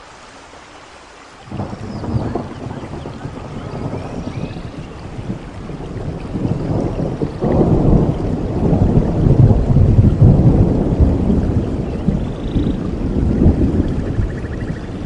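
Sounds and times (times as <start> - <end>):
rolling thunder rumble: 1.5 - 15.0.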